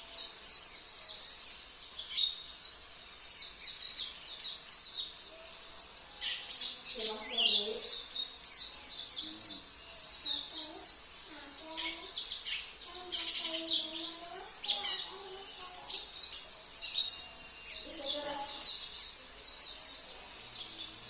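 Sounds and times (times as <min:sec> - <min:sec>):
songbirds twittering: 0:00.0 - 0:21.0.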